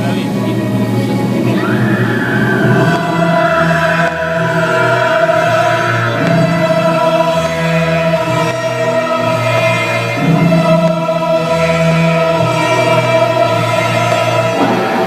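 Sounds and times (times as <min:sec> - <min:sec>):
orchestral music: 0:00.0 - 0:15.0
choir singing held notes: 0:01.4 - 0:15.0.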